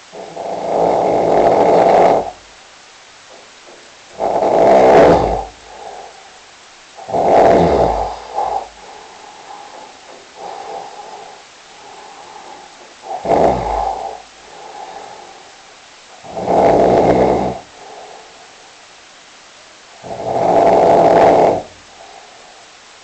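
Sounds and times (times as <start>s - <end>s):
quiet breathing: 0.0s - 23.0s
loud rasping snores: 0.1s - 2.4s, 4.1s - 6.3s, 7.0s - 18.3s, 20.0s - 22.6s.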